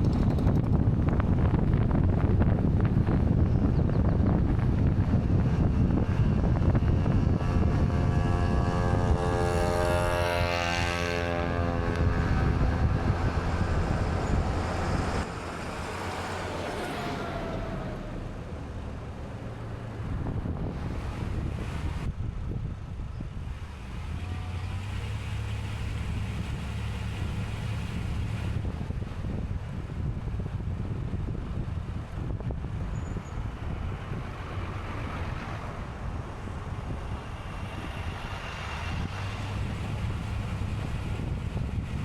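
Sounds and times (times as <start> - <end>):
engine passing by: 0.0 - 2.4, 4.7 - 22.6, 23.3 - 42.0
vehicle and wind rumble: 0.0 - 42.0.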